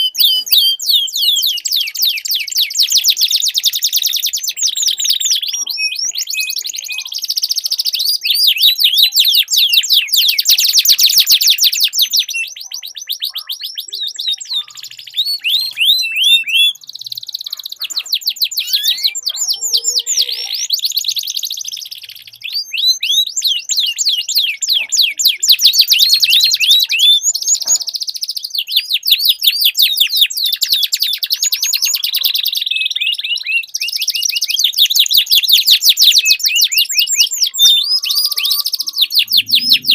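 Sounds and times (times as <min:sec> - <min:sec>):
canaries trilling: 0:00.0 - 0:39.9.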